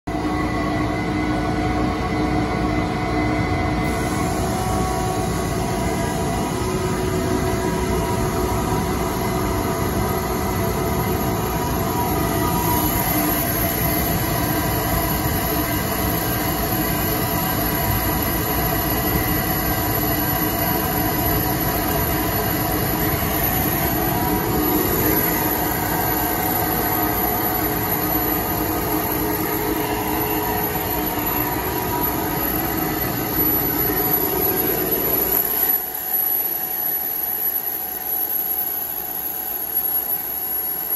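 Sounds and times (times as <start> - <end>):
air compressor droning: 0.1 - 40.9
faint high whine: 0.1 - 40.9.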